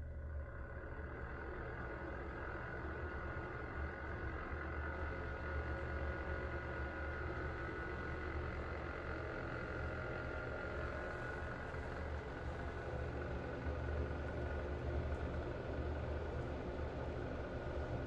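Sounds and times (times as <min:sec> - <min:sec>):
exhaust fan humming with whine: 0:00.0 - 0:18.0.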